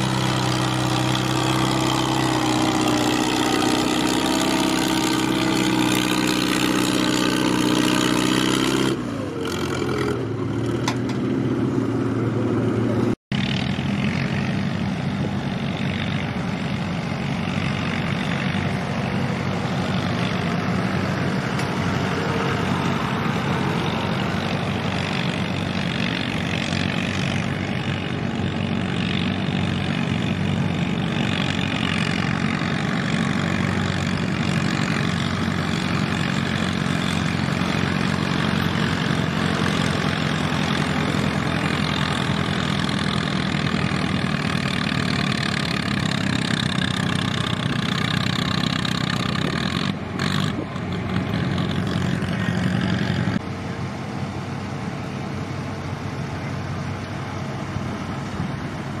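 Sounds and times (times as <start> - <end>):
tractor engine droning under load: 0.0 - 59.0
tractor engines running at low speed: 0.0 - 59.0.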